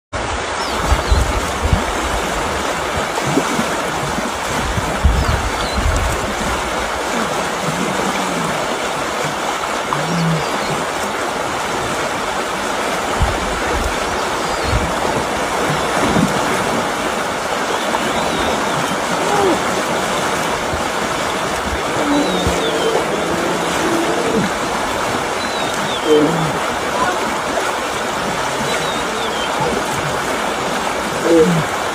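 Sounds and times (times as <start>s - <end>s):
river water rushing: 0.2s - 31.9s.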